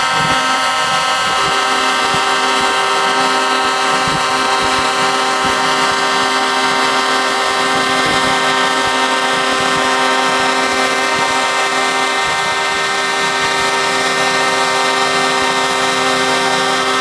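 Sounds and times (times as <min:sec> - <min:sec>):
truck air horns blowing: 0:00.0 - 0:17.0.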